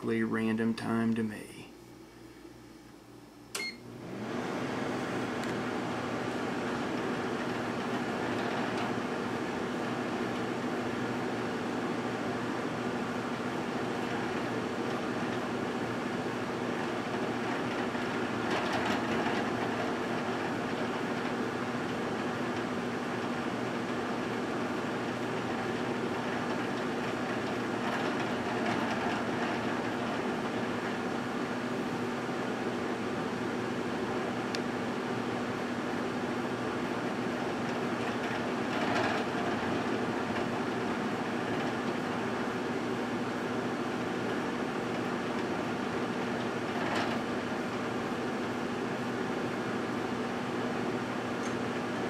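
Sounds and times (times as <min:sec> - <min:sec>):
microwave oven humming: 0:00.0 - 0:52.0.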